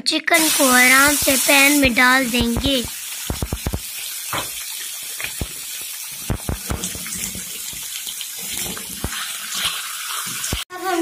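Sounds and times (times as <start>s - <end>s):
chicken sizzling in frying pan: 0.3s - 11.0s.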